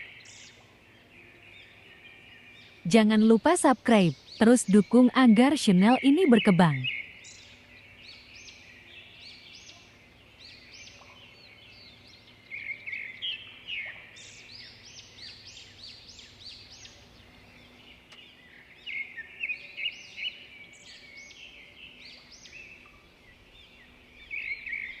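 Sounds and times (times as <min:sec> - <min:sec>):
caged birds chirping: 0:00.0 - 0:25.0.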